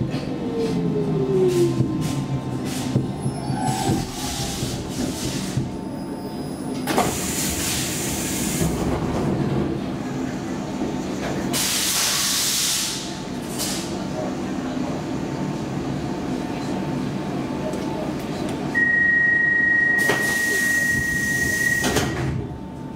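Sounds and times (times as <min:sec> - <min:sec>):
subway car hum: 0:00.0 - 0:22.9.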